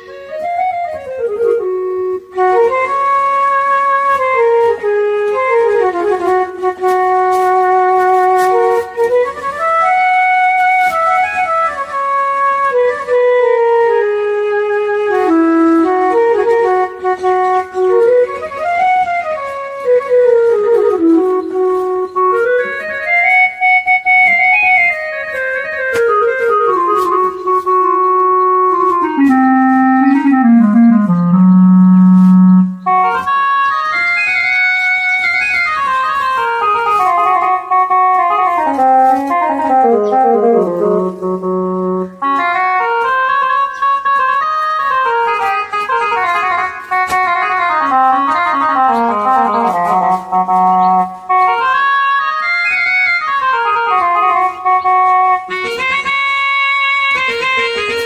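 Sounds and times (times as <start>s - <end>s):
keyboard woodwind melody: 0.0s - 58.0s.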